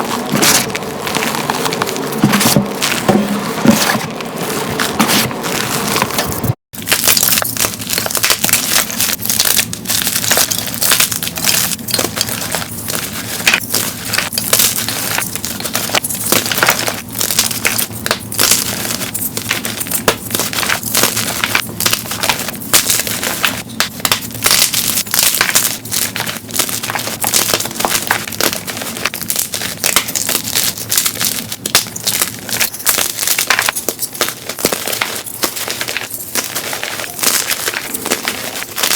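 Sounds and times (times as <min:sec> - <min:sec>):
chalk crunching and crackling: 0:00.0 - 0:38.9.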